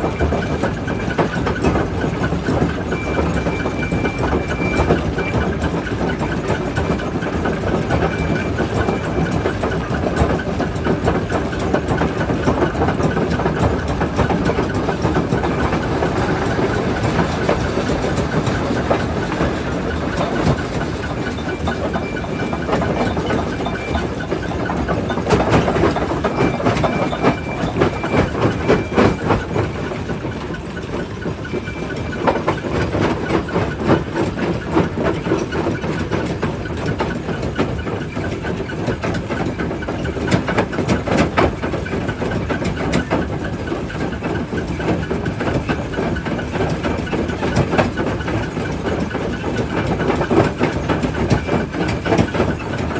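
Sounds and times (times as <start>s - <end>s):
crusher machine noise: 0.0s - 52.9s.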